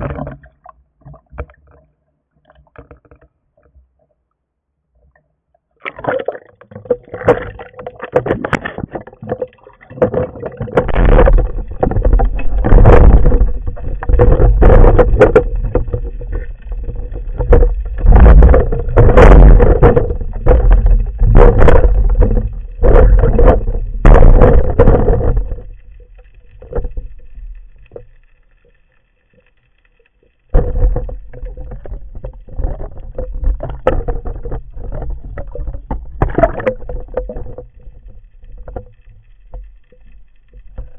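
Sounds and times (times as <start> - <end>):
water rushing underwater: 5.8 - 40.9.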